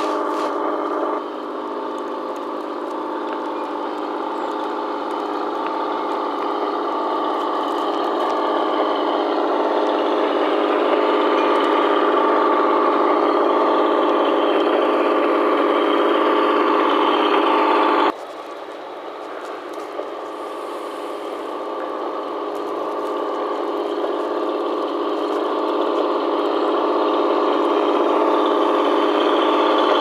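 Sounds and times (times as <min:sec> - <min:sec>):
model train drive humming: 0:00.0 - 0:18.2, 0:19.3 - 0:30.0.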